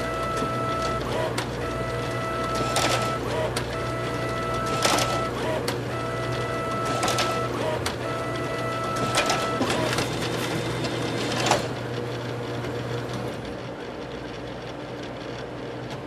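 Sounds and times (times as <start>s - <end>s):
photocopier humming: 0.0s - 14.4s.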